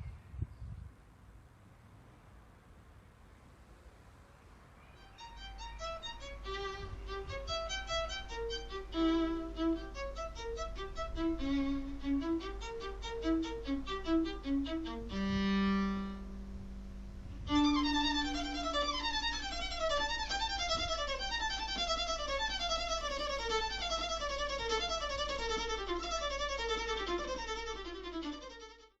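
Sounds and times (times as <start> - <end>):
violin playing: 5.0 - 29.0.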